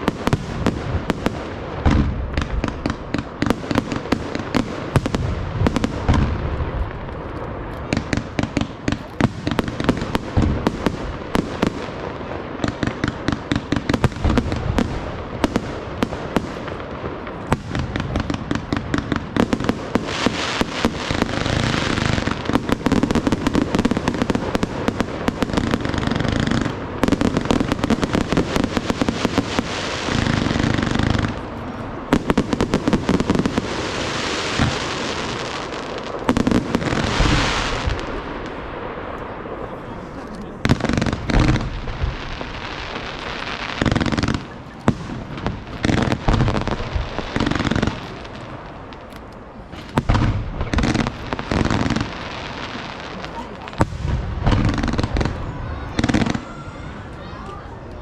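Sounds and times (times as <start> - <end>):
fireworks bursts and bangs: 0.0 - 58.0.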